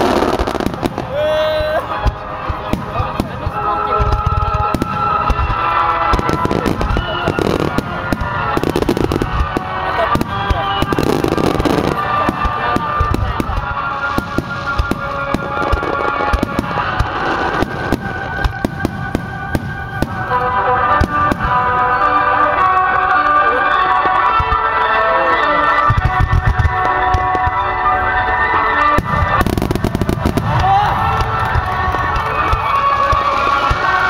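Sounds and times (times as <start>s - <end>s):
fireworks bursting and crackling: 0.0s - 34.0s
music playing: 0.0s - 34.0s.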